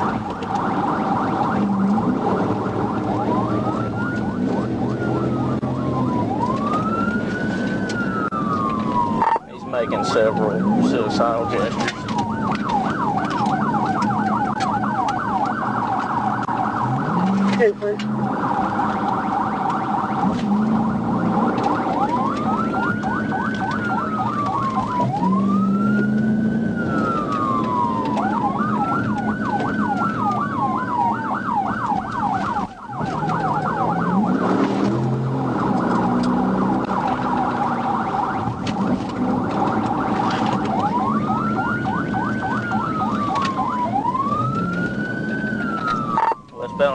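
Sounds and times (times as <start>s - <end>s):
police siren wail: 0.0s - 46.9s
police siren yelp: 0.0s - 46.9s.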